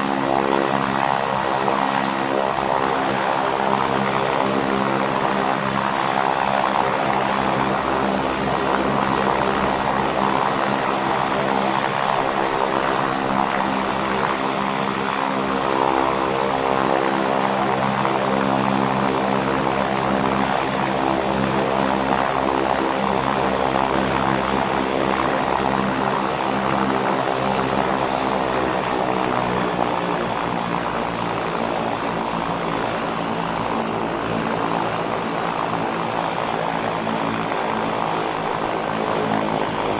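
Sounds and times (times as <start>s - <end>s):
propeller airplane engine running: 0.0s - 39.9s.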